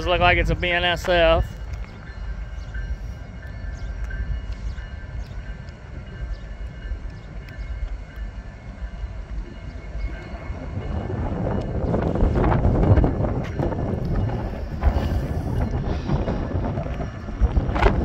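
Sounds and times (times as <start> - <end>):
freight train rumbling on rails: 0.0 - 18.0.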